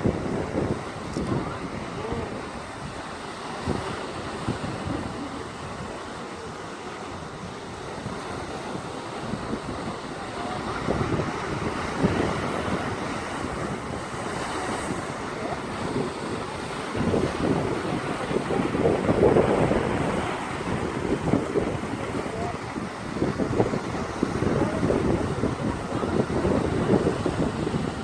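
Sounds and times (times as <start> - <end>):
waves breaking on beach: 0.0 - 28.0
wind buffeting microphone: 0.0 - 28.0.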